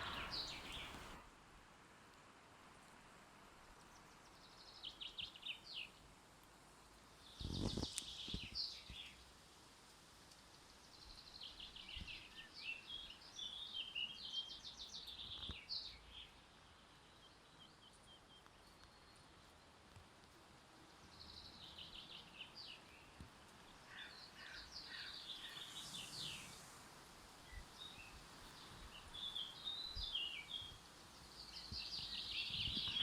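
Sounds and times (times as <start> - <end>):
faint outdoor background: 0.0 - 33.0.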